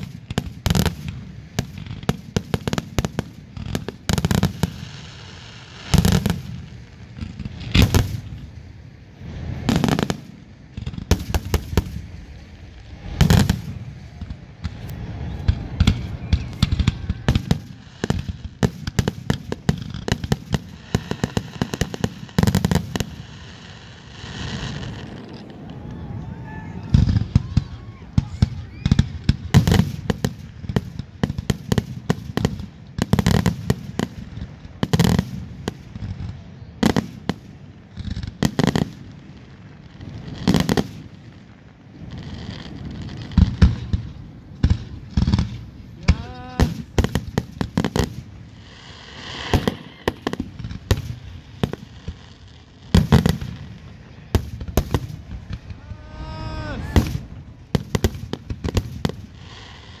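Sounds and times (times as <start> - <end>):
fireworks bangs: 0.0 - 60.0.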